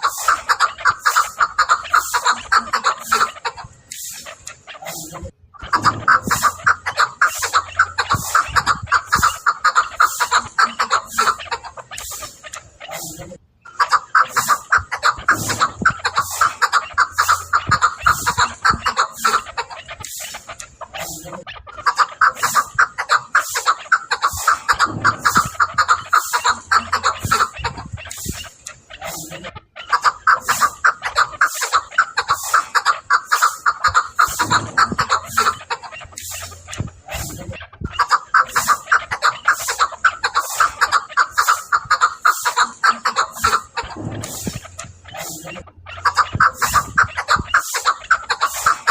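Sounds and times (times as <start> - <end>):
partridge clucking calls: 0.0 - 48.9.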